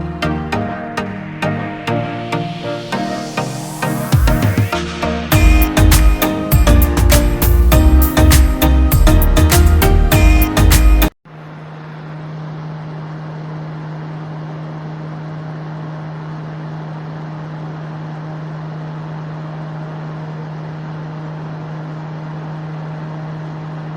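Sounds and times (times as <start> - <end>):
air conditioner fan running: 0.0 - 23.9.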